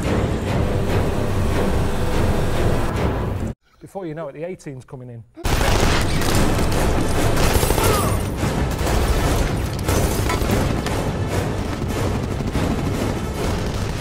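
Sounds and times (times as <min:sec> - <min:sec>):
action film music: 0:00.0 - 0:03.6, 0:05.5 - 0:14.0.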